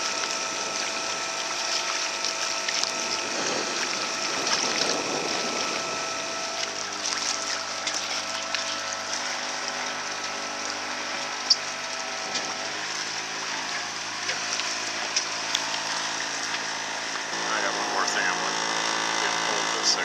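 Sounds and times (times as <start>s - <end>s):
boat engine humming: 0.0s - 20.0s
water and wind rushing: 0.0s - 20.0s.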